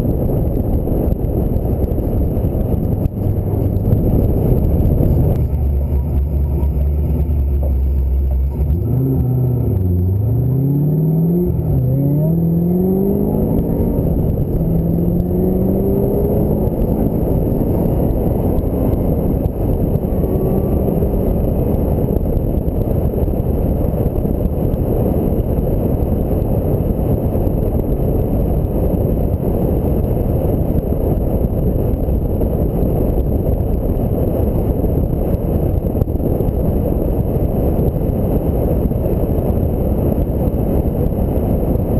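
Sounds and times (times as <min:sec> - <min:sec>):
car engine accelerating: 0:00.0 - 0:41.9
road and wind noise: 0:00.0 - 0:41.9.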